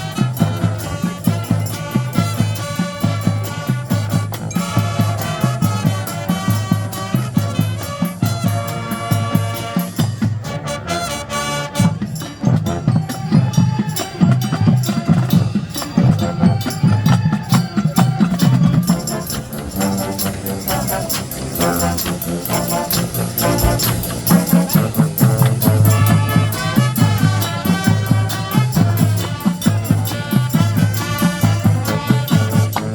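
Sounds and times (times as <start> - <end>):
steady drum beat: 0.0 - 10.8, 11.8 - 32.9
marching band horns: 0.0 - 32.9.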